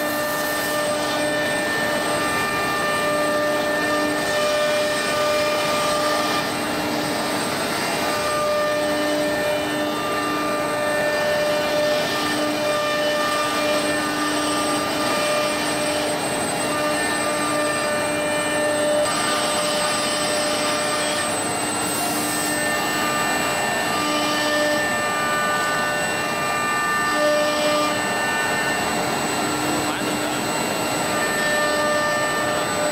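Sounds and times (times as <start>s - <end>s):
machine whine: 0.0s - 32.9s.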